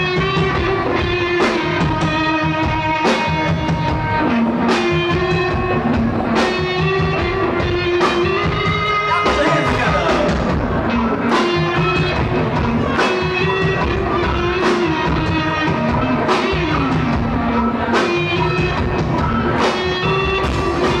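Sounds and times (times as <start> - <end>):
loud live rock band: 0.0 - 21.0.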